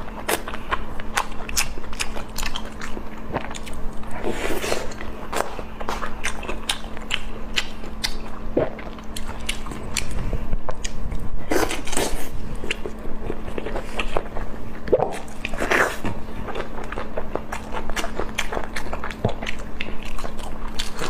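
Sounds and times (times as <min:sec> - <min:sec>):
person chewing crunchy food: 0:00.0 - 0:21.0
steady low hum: 0:00.0 - 0:21.0.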